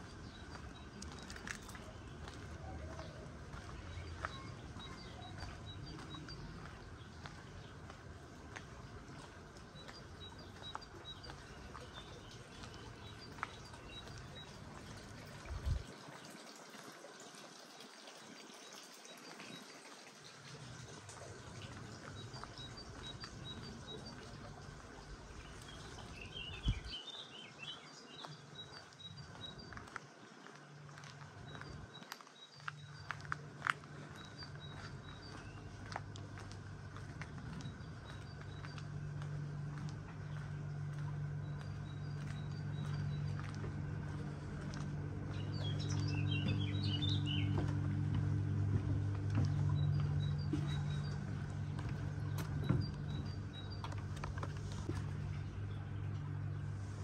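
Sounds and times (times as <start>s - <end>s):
small birds chirping: 0.0s - 15.9s, 17.6s - 57.0s
steady low hum: 0.0s - 16.0s, 20.2s - 57.0s.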